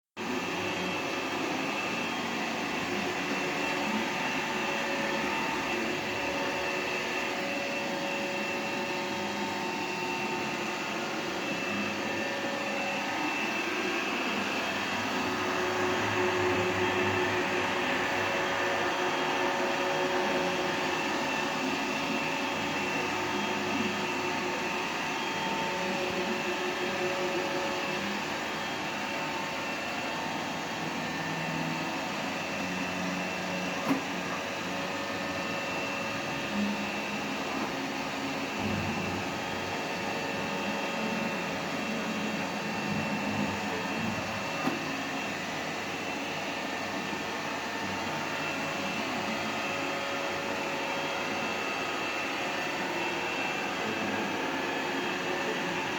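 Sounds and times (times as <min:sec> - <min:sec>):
robot vacuum whirring hum: 0:00.2 - 0:55.9.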